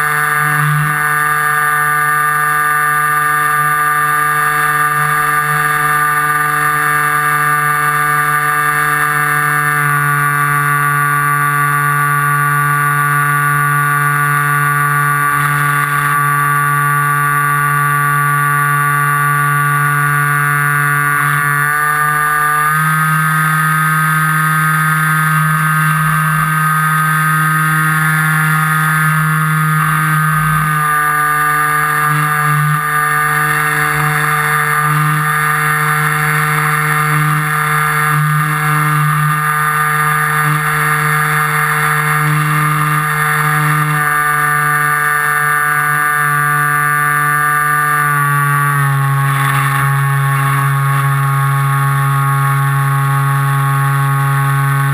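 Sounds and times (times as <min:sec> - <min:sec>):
model aircraft motor and propeller: 0:00.0 - 0:54.9.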